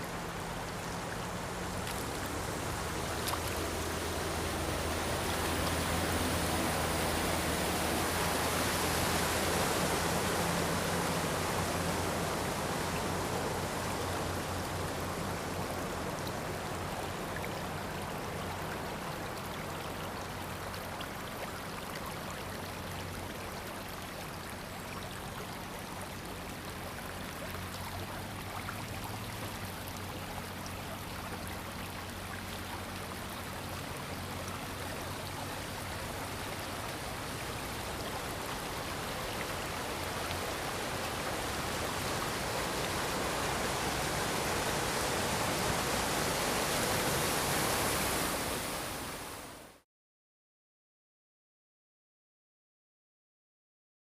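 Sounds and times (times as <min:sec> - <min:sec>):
floodwater rushing: 0:00.0 - 0:49.8.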